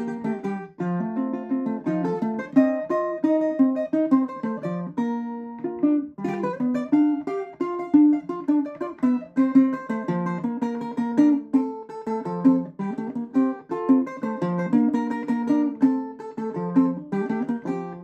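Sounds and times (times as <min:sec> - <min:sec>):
fingerpicked string instrument: 0:00.0 - 0:18.0.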